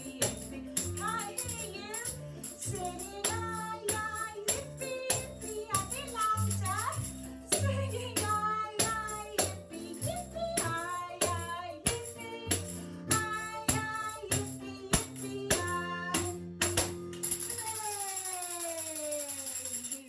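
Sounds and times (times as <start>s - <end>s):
backing music: 0.0s - 17.2s
tambourine jingling: 0.0s - 20.0s.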